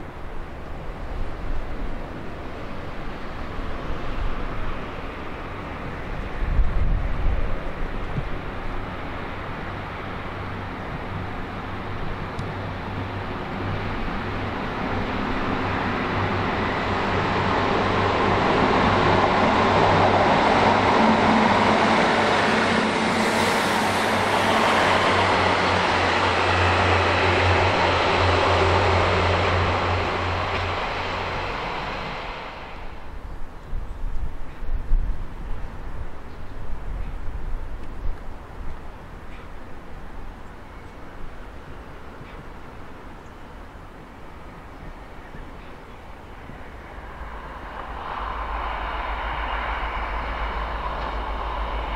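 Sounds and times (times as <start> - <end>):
diesel train engine drone: 0.0 - 51.9
train wheels on rails: 0.0 - 51.9.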